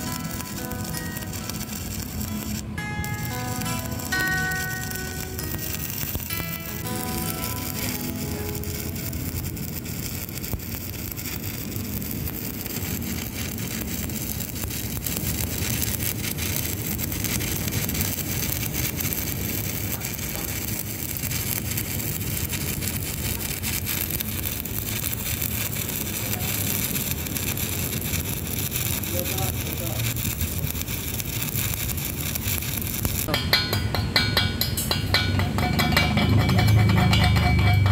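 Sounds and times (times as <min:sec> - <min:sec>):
welding arc crackling: 0:00.0 - 0:37.9.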